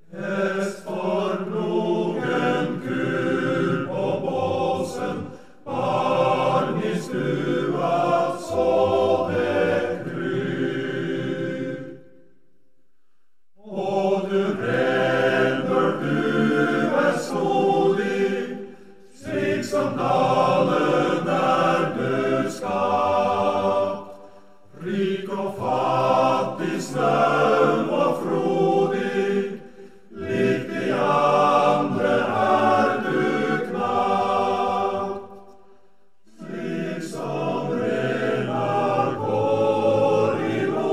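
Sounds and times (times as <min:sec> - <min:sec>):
choir singing: 0:00.0 - 0:12.4, 0:13.6 - 0:40.9.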